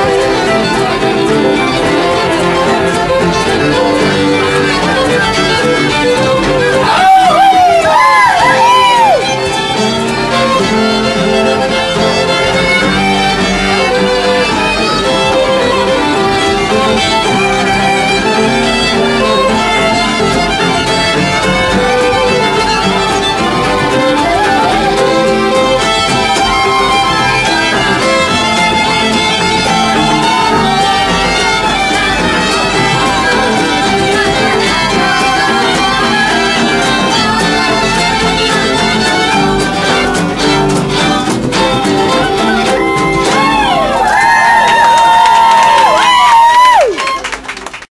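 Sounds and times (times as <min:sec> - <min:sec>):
fiddles playing a tune: 0:00.0 - 0:47.9.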